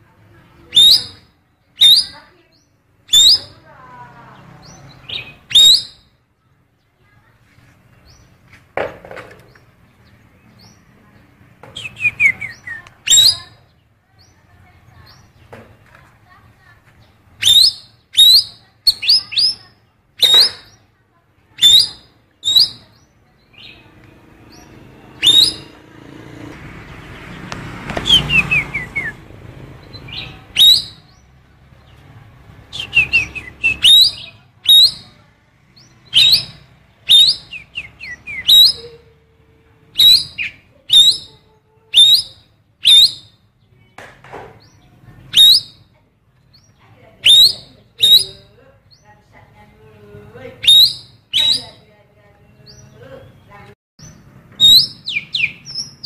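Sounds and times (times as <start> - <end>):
songbird singing call notes: 0.2 - 7.0, 7.9 - 16.0, 16.8 - 56.0.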